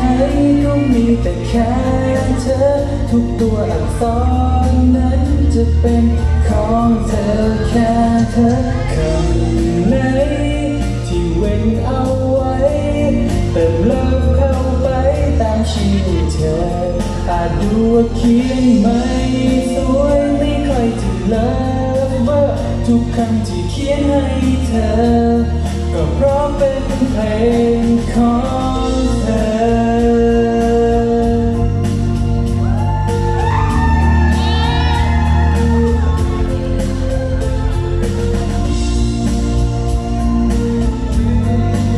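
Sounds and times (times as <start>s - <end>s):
man singing into microphone: 0.0s - 37.7s
instrumental backing music: 0.0s - 41.9s.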